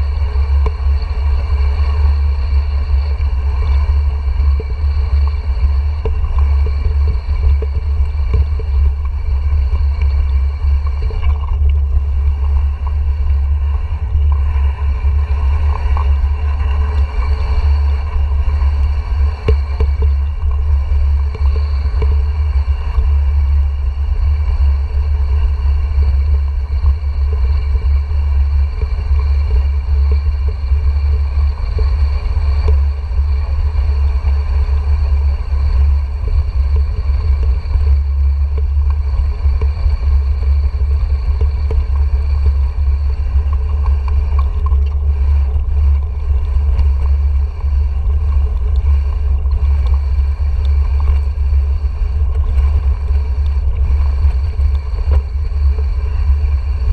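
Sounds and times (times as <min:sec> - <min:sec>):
bike tyre noise on stone: 0:00.0 - 0:56.9
wind buffeting microphone: 0:00.0 - 0:56.9.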